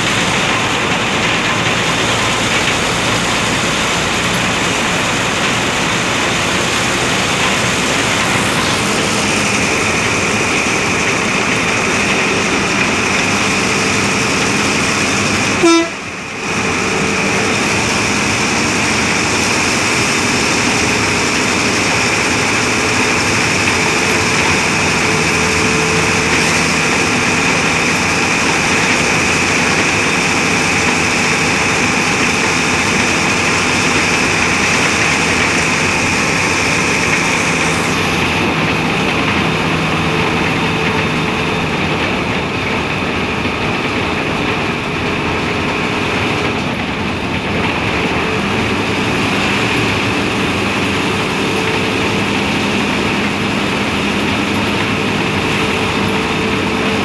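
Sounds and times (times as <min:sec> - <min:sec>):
bus body rumbling: 0:00.0 - 0:57.0
bus diesel engine running: 0:00.0 - 0:57.0.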